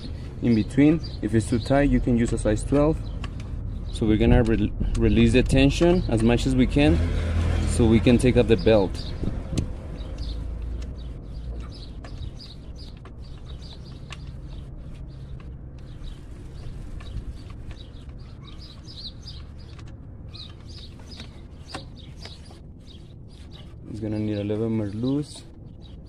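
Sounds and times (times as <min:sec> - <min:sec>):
steady low rumble: 0:00.0 - 0:07.0, 0:07.7 - 0:26.0
small birds chirping: 0:00.0 - 0:26.0.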